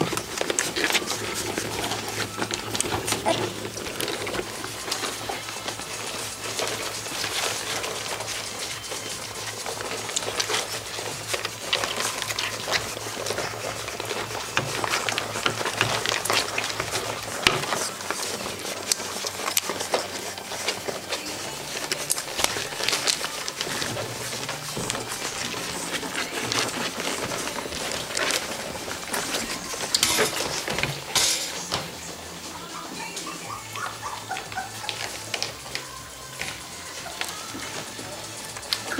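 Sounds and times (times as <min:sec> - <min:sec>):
puppies suckling: 0:00.0 - 0:38.9.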